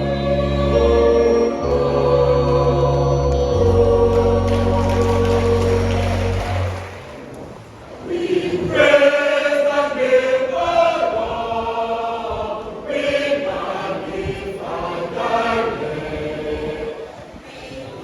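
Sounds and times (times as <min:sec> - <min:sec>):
children's choir singing: 0:00.0 - 0:07.4, 0:08.0 - 0:18.0.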